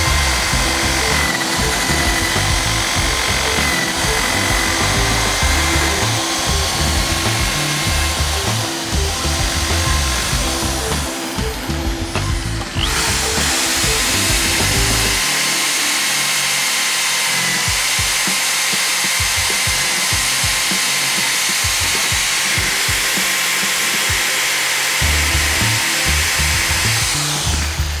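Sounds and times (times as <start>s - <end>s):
rotary tool high whine: 0.0s - 28.0s.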